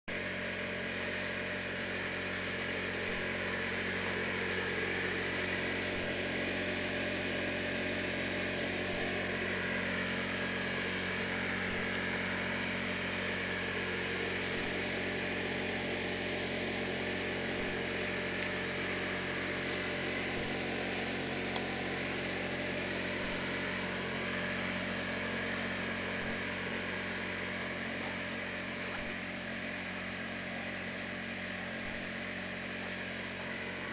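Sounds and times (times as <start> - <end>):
machine hum: 0.1 - 33.9.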